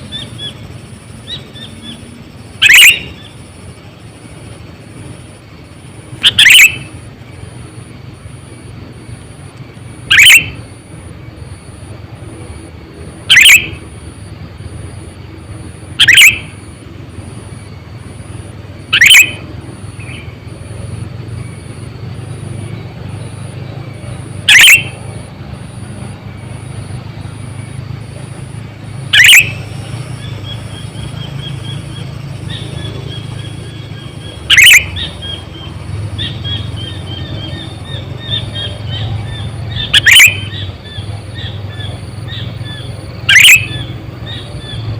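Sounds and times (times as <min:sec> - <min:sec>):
faint high pulsing tone: 0:00.0 - 0:44.7
bulbul calling: 0:00.0 - 0:44.9
soft bird twittering: 0:00.0 - 0:44.9.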